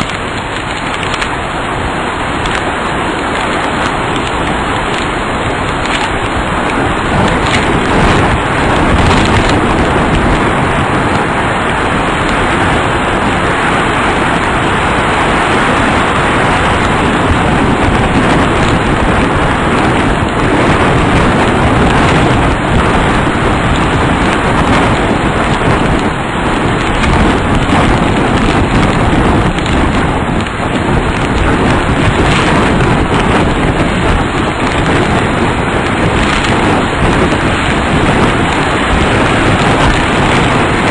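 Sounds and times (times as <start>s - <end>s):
heavy rain: 0.0s - 40.9s
tornado wind roaring: 0.0s - 40.9s.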